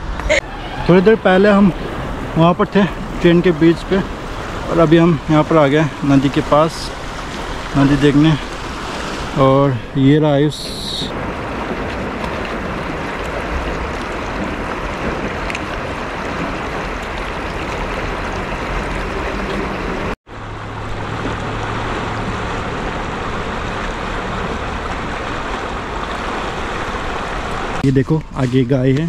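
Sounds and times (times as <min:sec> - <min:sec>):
river water rushing: 0:00.0 - 0:27.8.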